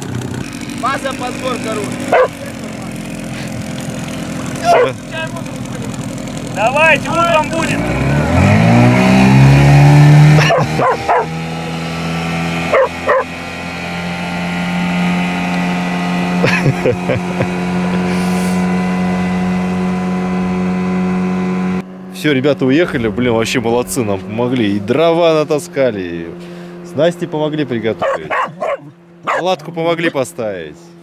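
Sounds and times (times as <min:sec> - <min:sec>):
engine barks: 0:00.0 - 0:31.0
vehicle engine running: 0:00.0 - 0:31.0.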